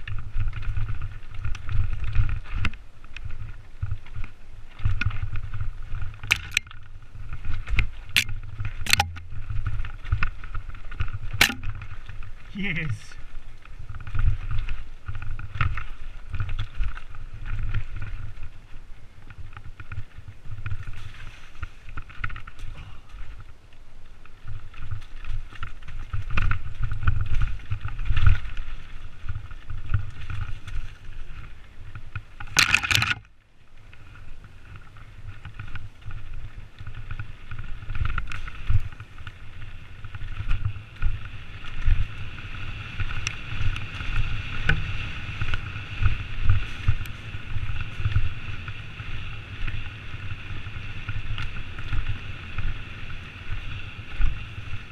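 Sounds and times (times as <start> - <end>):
bike rattling and knocking: 0.0 - 12.5, 13.4 - 23.4, 24.3 - 33.3, 33.9 - 54.9.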